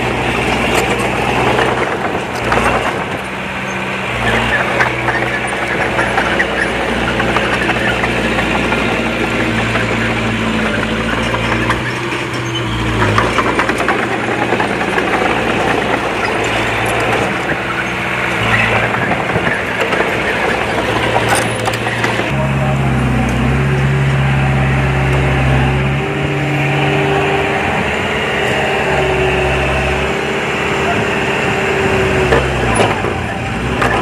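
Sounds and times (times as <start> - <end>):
bulldozer diesel engine under load: 0.0 - 34.0.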